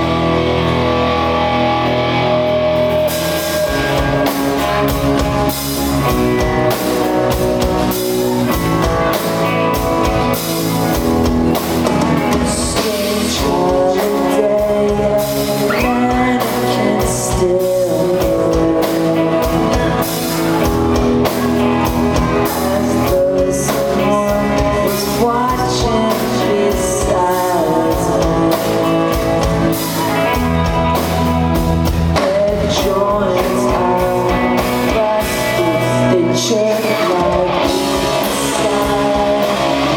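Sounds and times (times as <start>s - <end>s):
drums: 0.0s - 39.9s
electric guitars: 0.0s - 39.9s
person singing: 0.0s - 39.9s.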